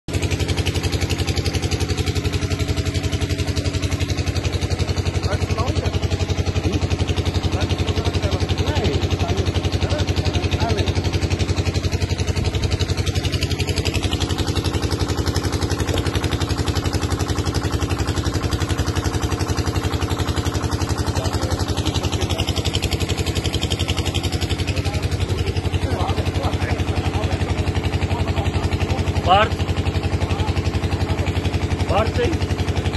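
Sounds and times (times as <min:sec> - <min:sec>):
engine running steadily: 0:00.1 - 0:32.9.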